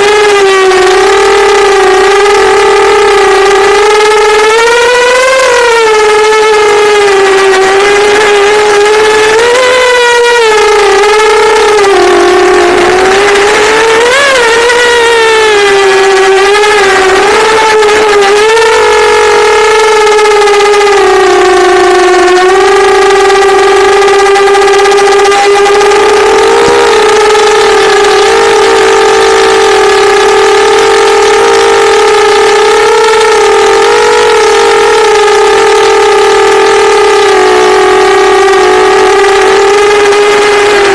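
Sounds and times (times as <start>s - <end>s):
drone motors whining: 0.0s - 40.9s.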